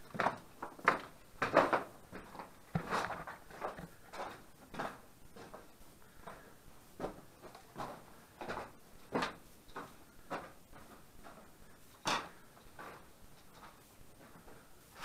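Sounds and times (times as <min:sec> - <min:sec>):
footsteps walking: 0:00.0 - 0:14.8.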